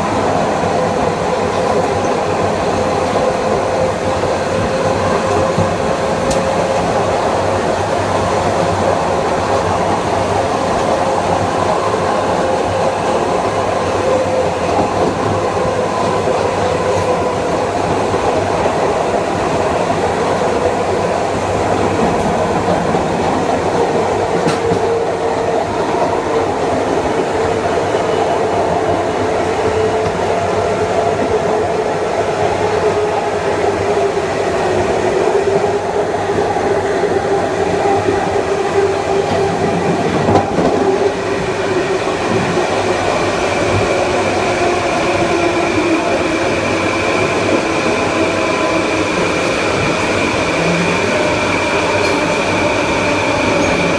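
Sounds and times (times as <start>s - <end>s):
wheels rumbling on rail: 0.0s - 53.9s.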